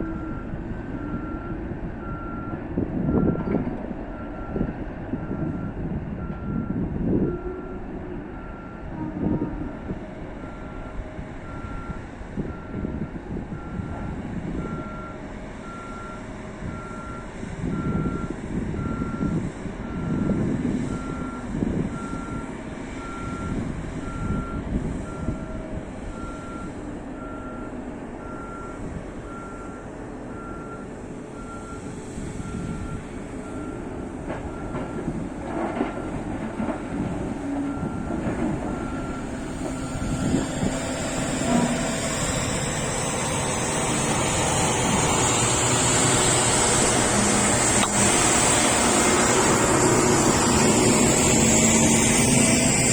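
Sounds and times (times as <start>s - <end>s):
reversing alarm beeping: 0.0s - 7.8s, 10.4s - 33.8s, 37.4s - 52.9s
heavy machinery rumble: 0.0s - 52.9s.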